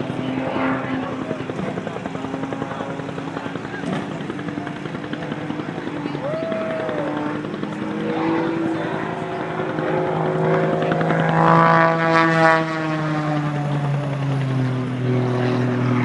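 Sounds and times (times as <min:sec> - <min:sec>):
propeller airplane flying past: 0:00.0 - 0:16.0.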